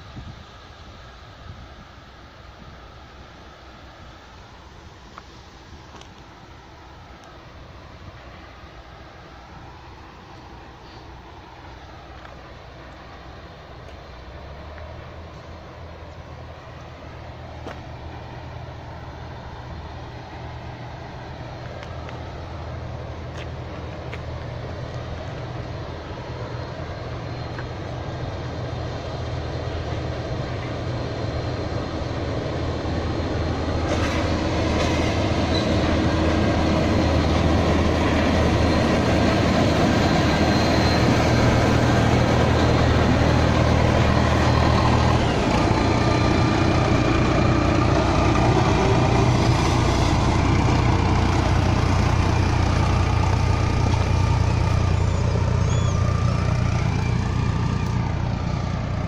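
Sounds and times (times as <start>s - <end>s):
locomotive diesel engine: 0.0s - 59.0s.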